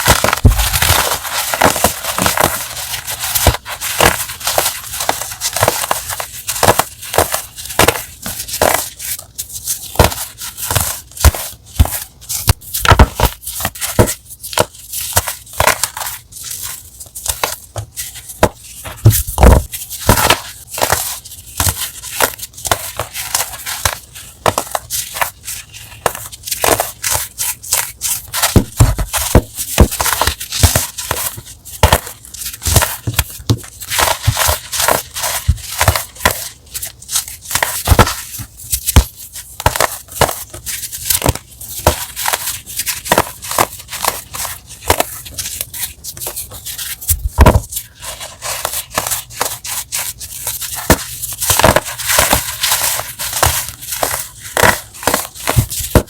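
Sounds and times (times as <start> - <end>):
chalk being crushed: 0.0 - 56.0.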